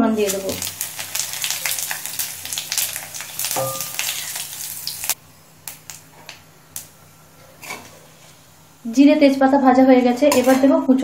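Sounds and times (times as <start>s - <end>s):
spices sizzling in hot oil: 0.0s - 10.7s.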